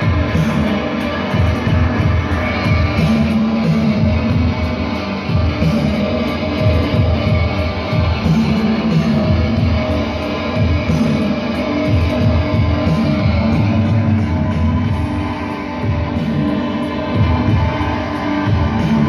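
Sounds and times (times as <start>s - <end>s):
heavy electric guitar: 0.0s - 19.0s
live rock music: 0.0s - 19.0s.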